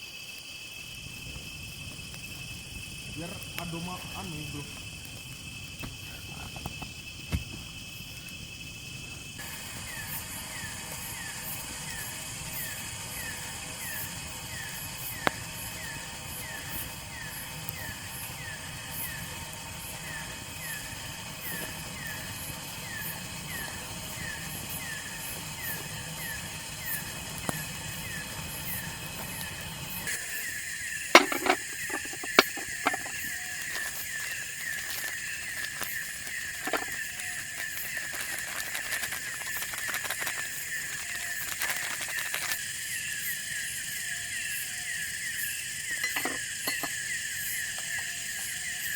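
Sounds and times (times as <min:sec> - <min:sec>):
insects shrilling: 0:00.0 - 0:48.9.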